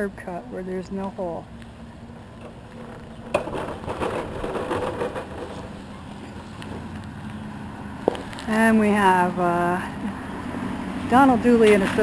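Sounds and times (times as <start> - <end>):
wheelchair rattling over rough pavement: 0.0 - 9.4, 10.5 - 12.0.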